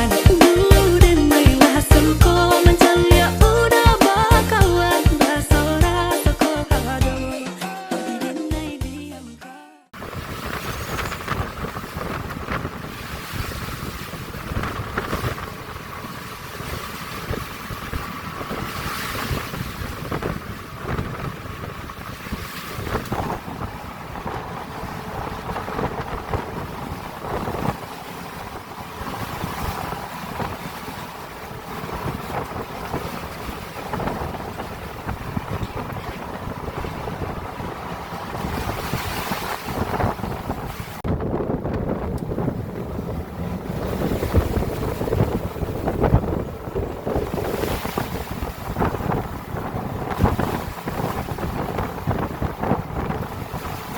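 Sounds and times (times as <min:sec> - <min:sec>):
waves washing against hull: 0:00.0 - 0:08.8, 0:09.9 - 0:53.9
wind gusting across microphone: 0:09.9 - 0:53.9.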